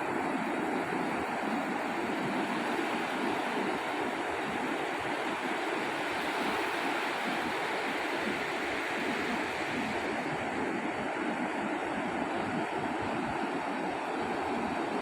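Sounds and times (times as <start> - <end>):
waves breaking on sandy beach: 0.7 - 15.0.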